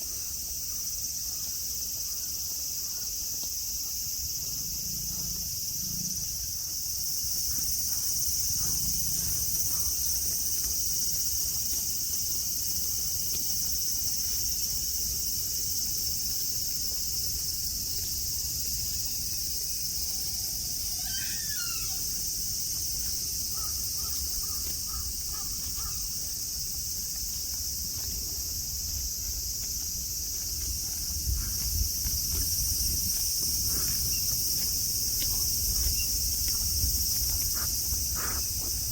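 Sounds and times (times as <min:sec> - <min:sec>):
cicadas singing: 0:00.0 - 0:38.9.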